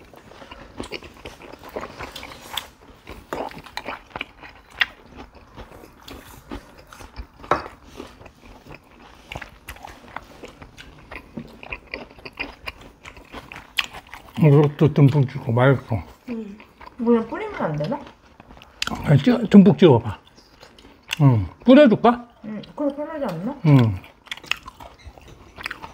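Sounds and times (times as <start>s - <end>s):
chewing and biting food: 0.0s - 25.9s.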